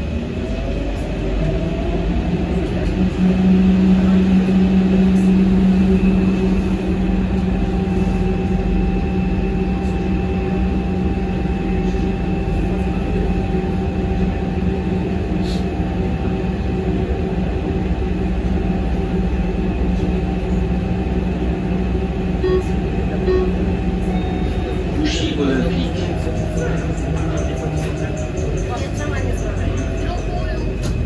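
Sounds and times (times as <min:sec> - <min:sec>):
metro train rumble and hum: 0:00.0 - 0:31.0.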